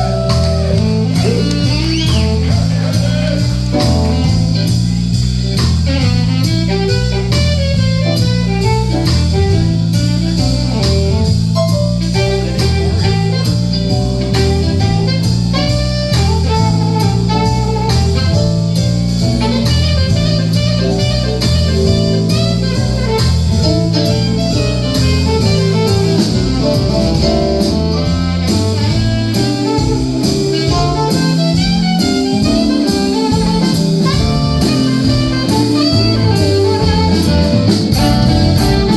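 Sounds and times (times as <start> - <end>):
guitar: 0.0 - 9.9, 10.8 - 38.9
bass line: 0.0 - 38.9
drum kit: 0.0 - 38.9.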